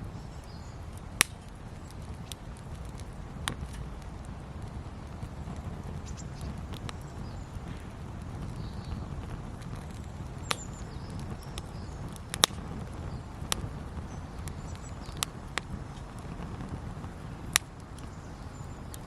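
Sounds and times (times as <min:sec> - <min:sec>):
campfire pops and cracks: 0:00.0 - 0:19.0
fire low rumble: 0:00.0 - 0:19.0.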